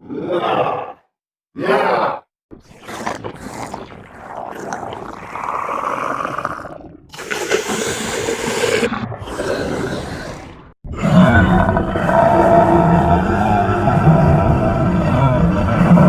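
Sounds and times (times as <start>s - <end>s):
monster growls and snarls: 0.0s - 16.0s.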